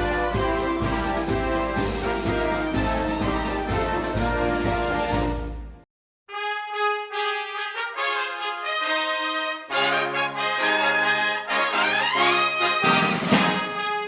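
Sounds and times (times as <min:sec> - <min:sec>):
brass instruments playing: 0:00.0 - 0:14.0.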